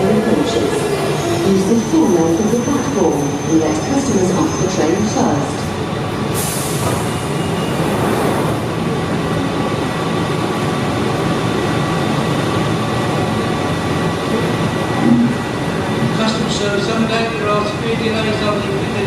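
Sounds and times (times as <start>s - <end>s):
underground train rumbling: 0.0s - 19.0s.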